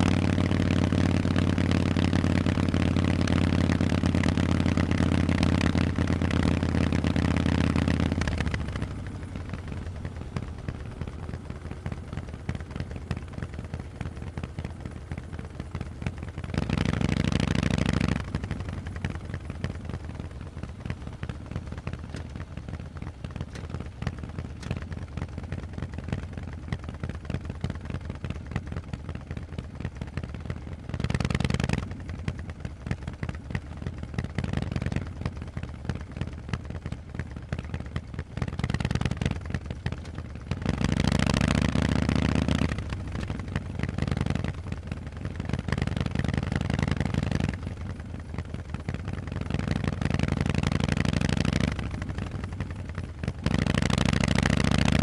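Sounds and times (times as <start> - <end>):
motorcycle exhaust pulsing: 0.0 - 55.0.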